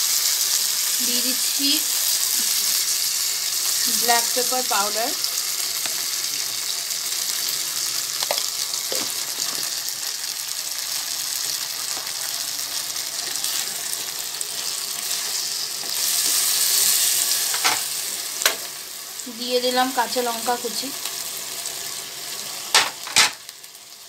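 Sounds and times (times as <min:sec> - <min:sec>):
potatoes sizzling in a pan: 0:00.0 - 0:24.0.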